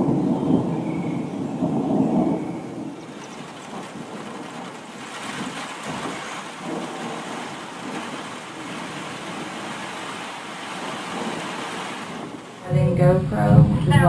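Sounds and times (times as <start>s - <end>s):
steady rain hiss: 0.0s - 14.0s
thunder rumbling: 0.0s - 14.0s.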